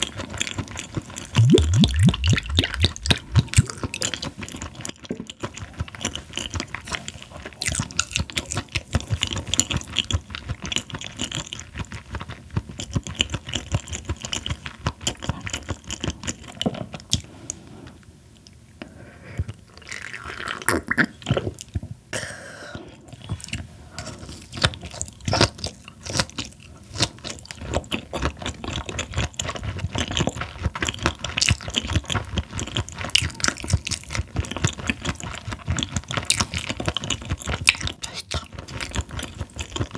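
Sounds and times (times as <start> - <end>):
close chewing with crunchy bites: 0.0 - 17.6, 22.8 - 39.9.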